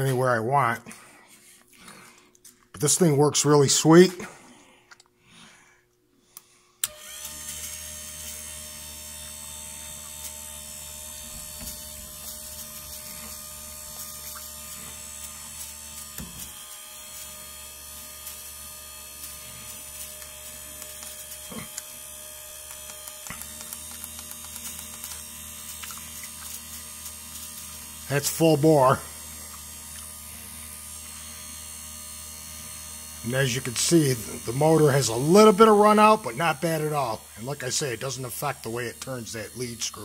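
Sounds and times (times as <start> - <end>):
electric motor humming: 6.8 - 40.0.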